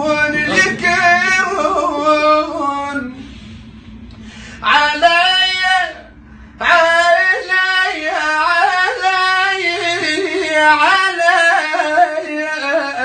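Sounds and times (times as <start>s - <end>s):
man singing a wavering lament: 0.0s - 3.2s, 4.6s - 13.0s.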